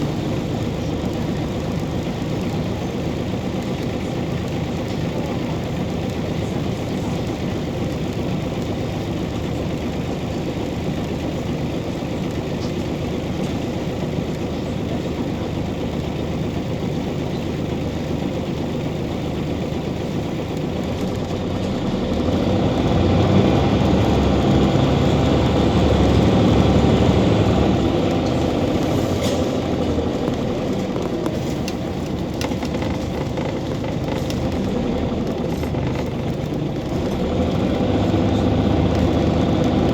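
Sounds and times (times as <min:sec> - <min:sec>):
bus diesel engine running: 0:00.0 - 0:39.9
tyre and road noise: 0:00.0 - 0:39.9.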